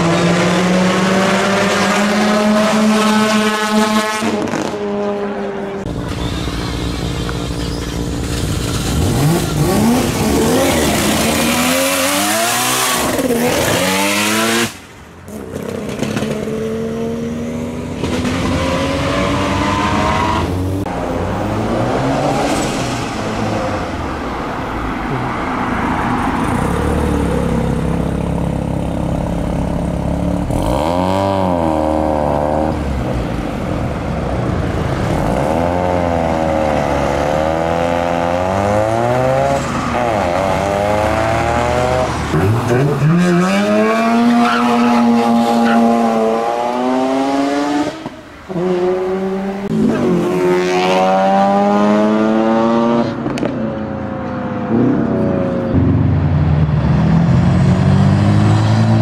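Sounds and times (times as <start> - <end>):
rotary engines revving hard: 0.0 - 24.6, 25.2 - 33.4, 34.4 - 53.6, 54.5 - 59.0.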